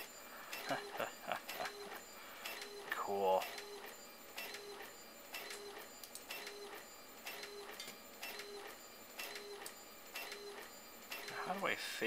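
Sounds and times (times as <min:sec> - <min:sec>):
inkjet printer head clicking and humming: 0:00.5 - 0:02.8, 0:03.4 - 0:11.5.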